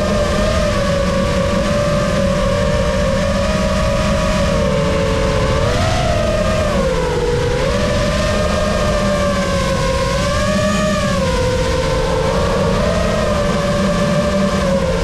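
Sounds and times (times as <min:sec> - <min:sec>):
drone motors whining: 0:00.0 - 0:15.0
propeller wash rush: 0:00.0 - 0:15.0.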